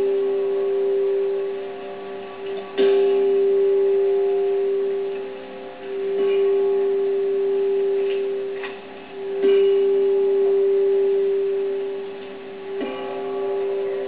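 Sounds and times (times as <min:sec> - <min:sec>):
handbells ringing a chord: 0:00.0 - 0:14.0.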